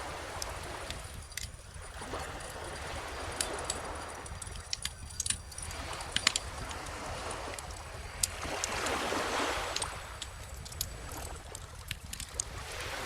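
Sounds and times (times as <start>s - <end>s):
ocean waves washing in: 0.0s - 13.0s
bonfire crackling and popping: 0.3s - 8.9s, 9.6s - 12.5s.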